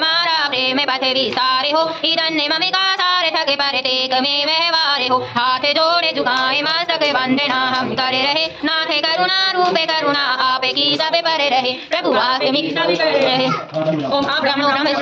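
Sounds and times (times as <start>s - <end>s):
voices singing a devotional chant: 0.0s - 15.0s.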